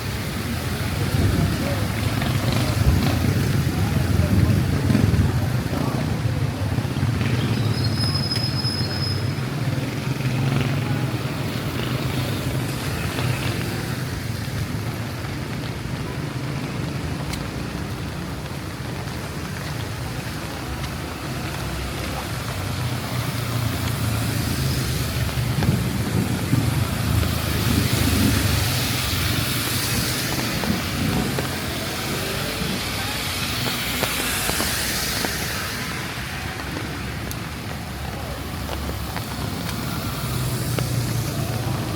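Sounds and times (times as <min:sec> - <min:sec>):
engine rumble of traffic: 0:00.0 - 0:41.9
tyres hissing on wet pavement: 0:00.0 - 0:41.9.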